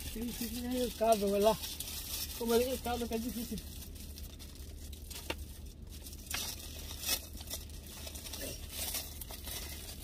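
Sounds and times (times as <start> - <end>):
food packaging crinkling: 0.0 - 10.0.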